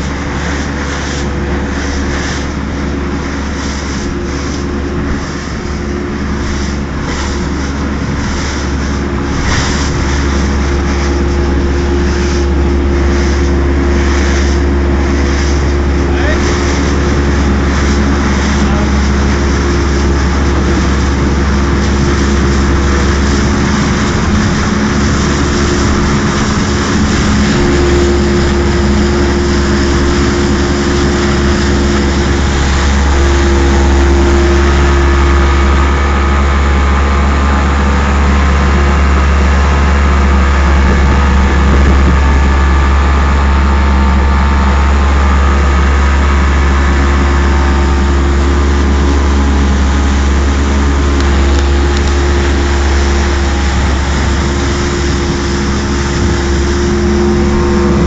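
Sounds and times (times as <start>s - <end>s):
outboard motor humming: 0.0s - 58.0s
water rushing past hull: 0.0s - 58.0s.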